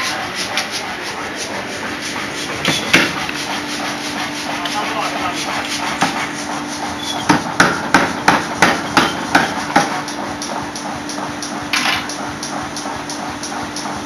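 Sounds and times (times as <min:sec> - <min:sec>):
power hammer blows on steel: 0:00.0 - 0:14.0
steady hum: 0:00.0 - 0:14.0.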